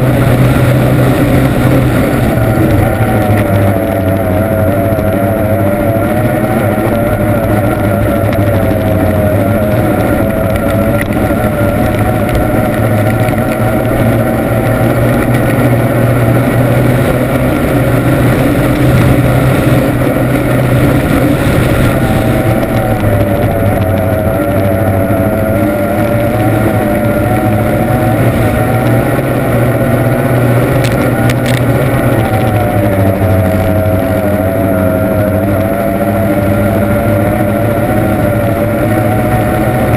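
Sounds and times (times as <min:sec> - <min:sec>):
racing boat engine running hard: 0:00.0 - 0:39.9.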